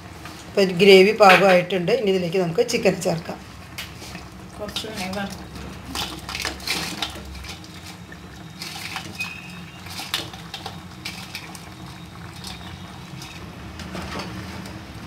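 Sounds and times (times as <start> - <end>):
stirring in pan: 2.7 - 15.0.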